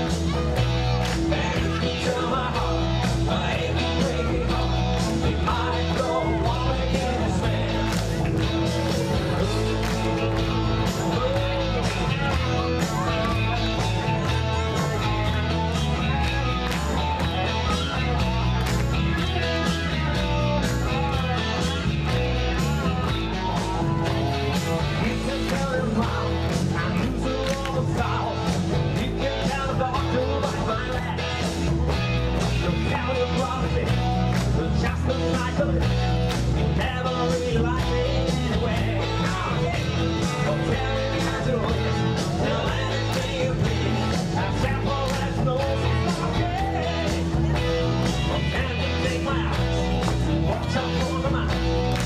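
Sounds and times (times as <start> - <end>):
band playing country-rock music: 0.0 - 52.0
bass: 0.0 - 52.0
guitar: 0.0 - 52.0.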